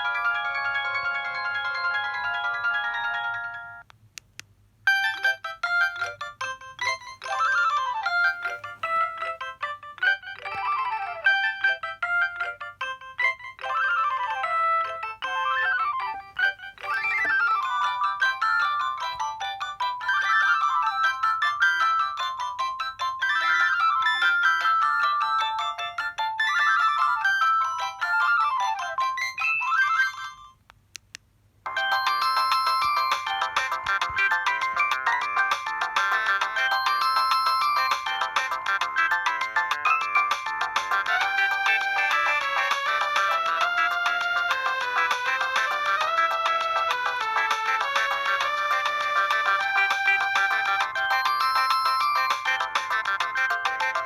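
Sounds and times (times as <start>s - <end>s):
electronic ringtone melody: 0.0s - 3.9s, 4.9s - 30.6s, 31.7s - 54.0s.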